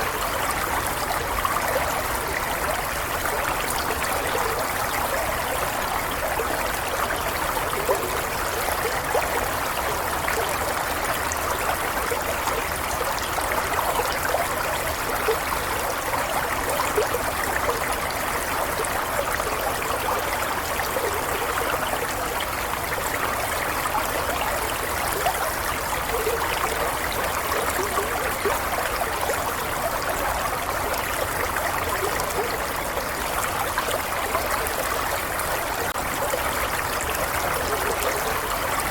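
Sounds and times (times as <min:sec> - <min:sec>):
running water with gurgles: 0:00.0 - 0:38.9.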